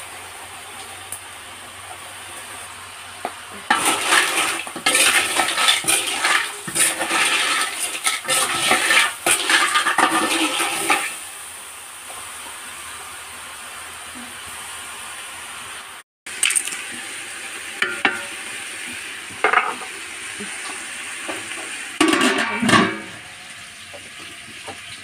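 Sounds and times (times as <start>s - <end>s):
hot oil sizzling and spattering: 0.0s - 25.0s.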